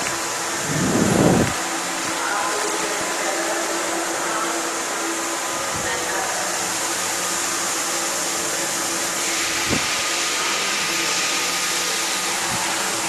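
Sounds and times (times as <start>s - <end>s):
machine hiss with whining tones: 0.0s - 13.0s.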